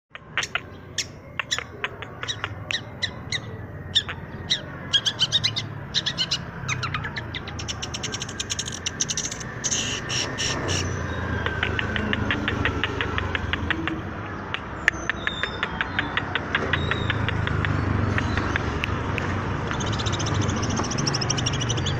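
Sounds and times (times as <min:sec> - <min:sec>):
shrike calling: 0:00.2 - 0:19.2.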